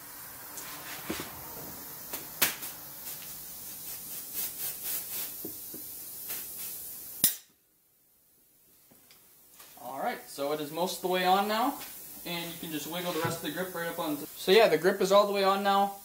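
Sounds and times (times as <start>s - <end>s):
compressed air hissing: 0.0s - 7.3s, 9.8s - 16.0s.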